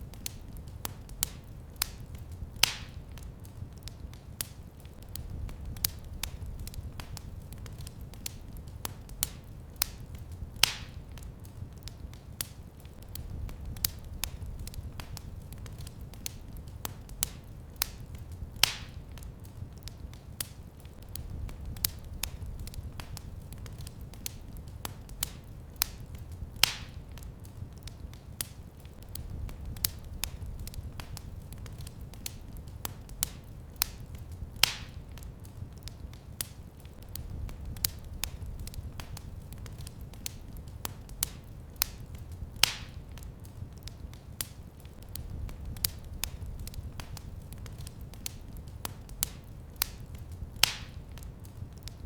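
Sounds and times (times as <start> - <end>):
fire popping: 0.0 - 52.0
wood fire crackling: 0.0 - 52.0.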